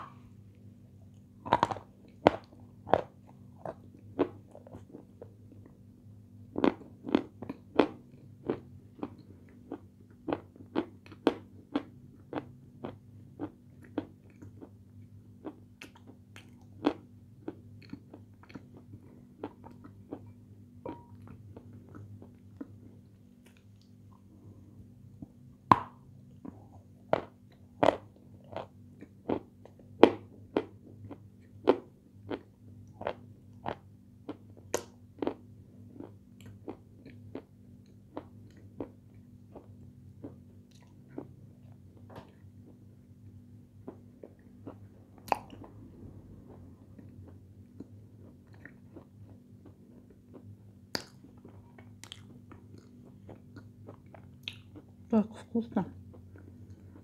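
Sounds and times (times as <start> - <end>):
person chewing crisp sweet: 1.1 - 5.7, 6.5 - 24.7, 26.2 - 55.1, 56.0 - 57.0.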